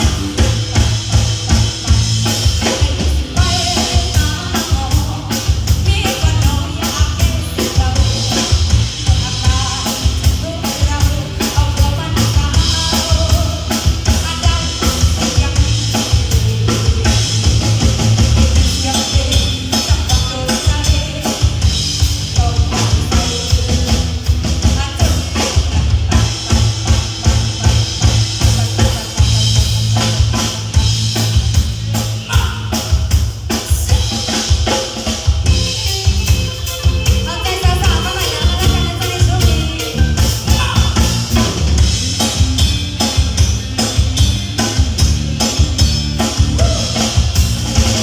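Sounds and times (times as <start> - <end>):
drum kit beat: 0.0 - 48.0
heavy bass: 0.0 - 48.0
live band playing: 0.0 - 48.0.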